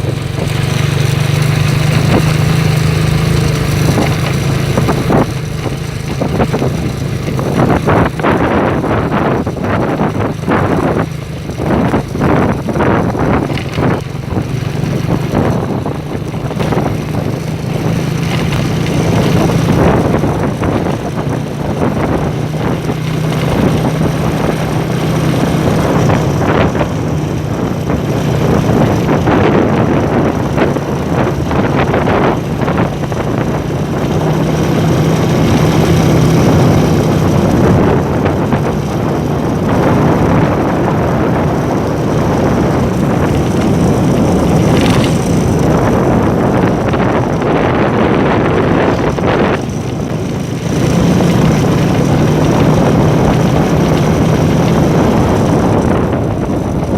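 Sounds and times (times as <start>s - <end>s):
road rumble: 0.0s - 56.9s
vehicle engine hum: 0.0s - 56.9s
wind on microphone: 0.0s - 56.9s.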